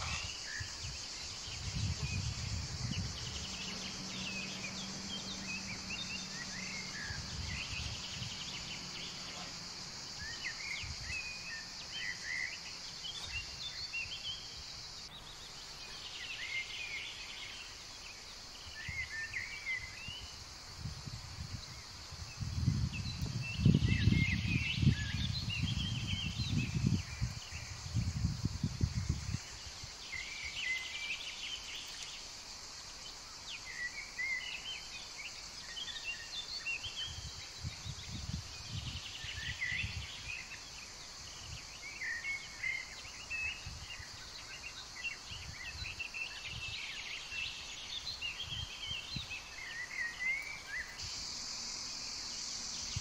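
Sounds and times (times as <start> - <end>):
insects droning: 0.0 - 53.0
small birds chirping: 0.0 - 53.0.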